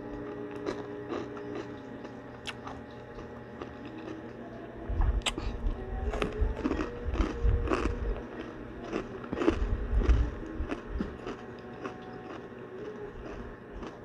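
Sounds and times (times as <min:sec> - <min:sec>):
crunching pork rinds: 0:00.0 - 0:04.6, 0:05.2 - 0:14.0.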